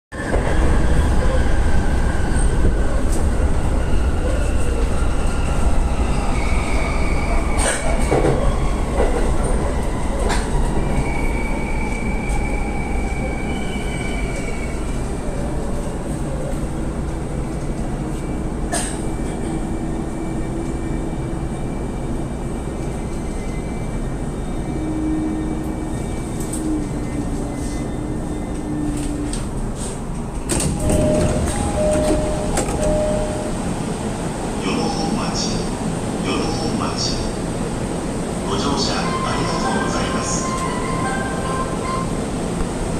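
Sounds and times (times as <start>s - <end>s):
train rumble: 0.1s - 42.9s.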